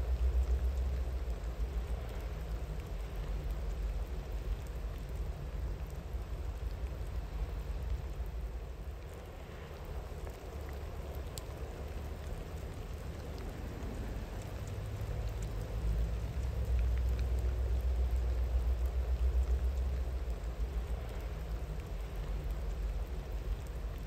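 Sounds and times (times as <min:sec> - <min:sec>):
raindrop ticks: 0:00.0 - 0:24.0
steady rain falling: 0:00.0 - 0:24.0.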